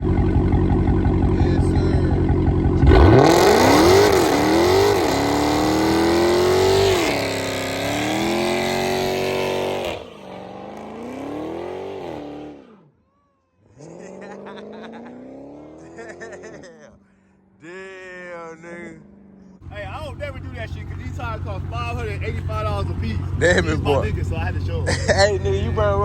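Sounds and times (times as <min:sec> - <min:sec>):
car engine revving: 0:00.0 - 0:12.9, 0:13.8 - 0:16.7, 0:18.1 - 0:26.0.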